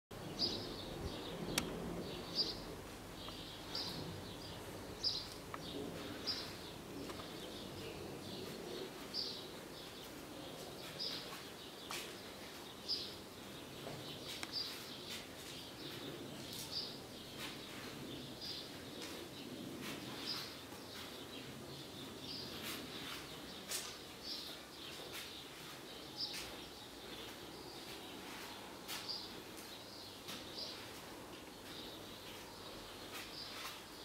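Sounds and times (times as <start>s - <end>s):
steady background noise: 0.1s - 34.0s.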